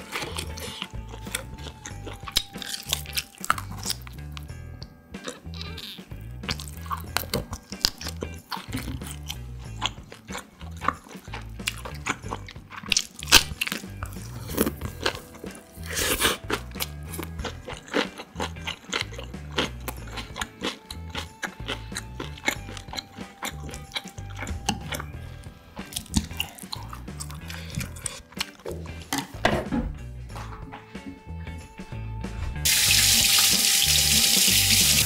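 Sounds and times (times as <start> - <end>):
crunchy chewing and biting: 0.0 - 29.1.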